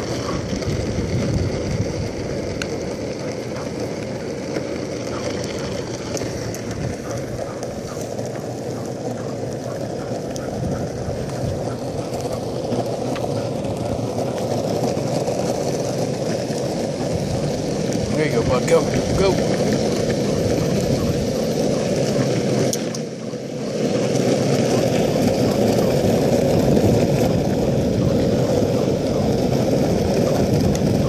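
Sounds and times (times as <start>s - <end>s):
skateboard wheels rolling on asphalt: 0.0s - 31.0s.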